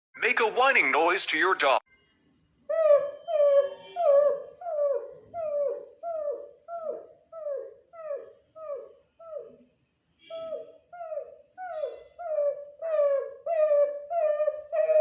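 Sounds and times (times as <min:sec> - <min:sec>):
dog whining: 0:02.7 - 0:15.0.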